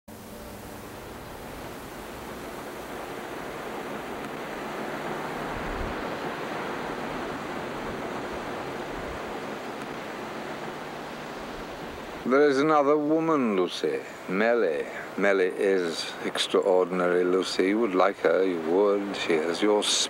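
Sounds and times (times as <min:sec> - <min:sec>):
ocean surf washing onto beach: 0:00.1 - 0:20.0.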